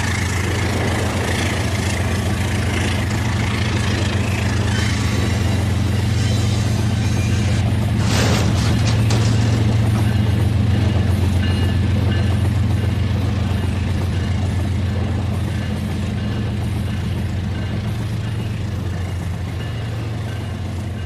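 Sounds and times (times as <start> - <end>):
rattle of wheels and gears: 0.0 - 20.6.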